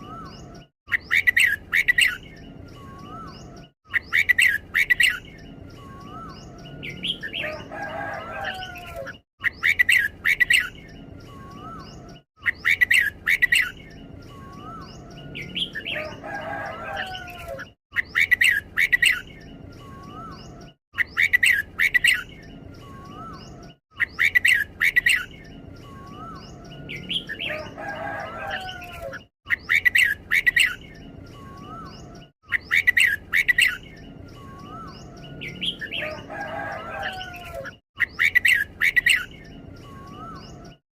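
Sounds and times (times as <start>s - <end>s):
bird sharp chirps: 0.0s - 40.8s.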